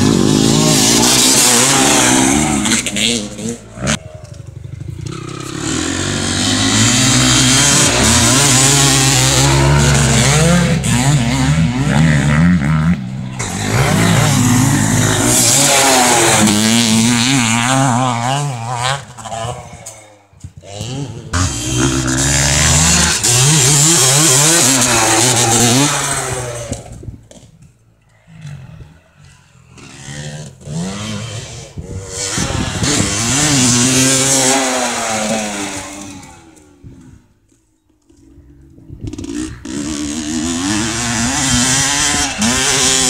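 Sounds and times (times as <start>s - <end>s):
motocross bike engine revving: 0.0s - 43.0s.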